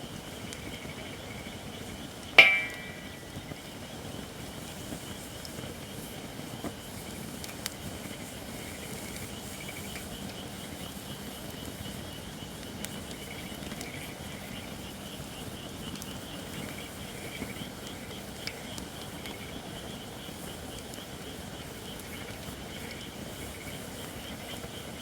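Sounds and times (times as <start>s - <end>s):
campfire hissing and crackling: 0.0s - 25.0s.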